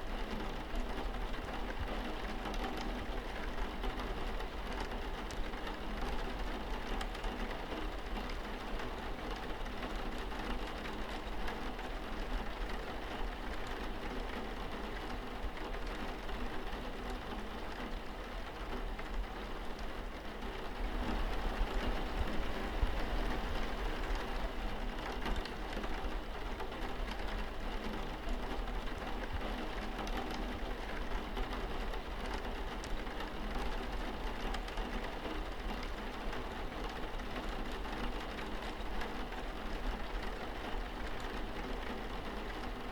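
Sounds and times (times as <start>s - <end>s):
rain on window glass: 0.0s - 42.9s.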